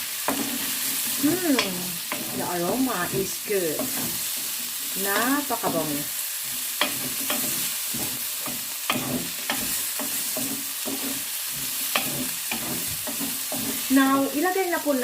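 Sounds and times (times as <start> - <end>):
spatula scraping a pan: 0.0 - 14.3
vegetables sizzling in hot oil: 0.0 - 15.0.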